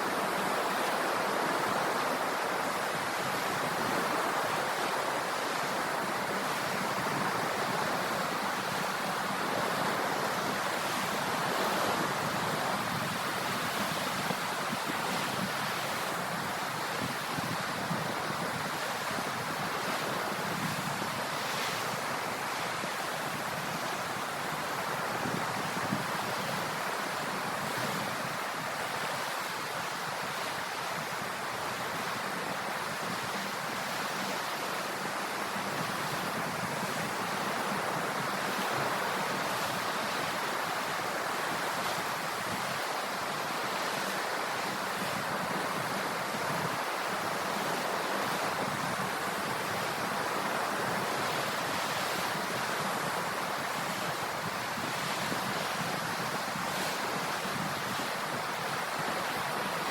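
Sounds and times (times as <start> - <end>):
sea waves washing on shore: 0.0 - 59.9.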